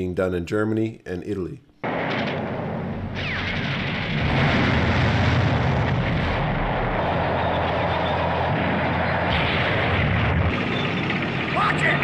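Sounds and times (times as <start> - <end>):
heavy rumble of explosions: 1.8 - 12.0.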